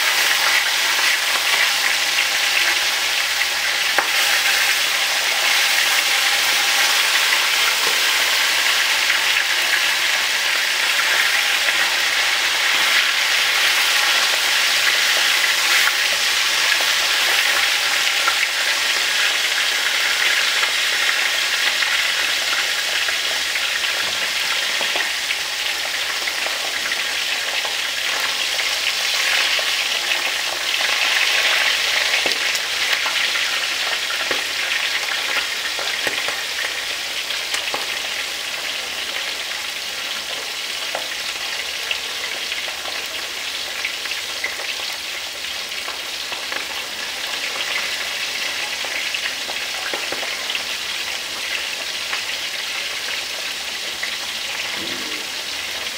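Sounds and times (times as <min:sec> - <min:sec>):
fish sizzling in oil: 0:00.0 - 0:55.9.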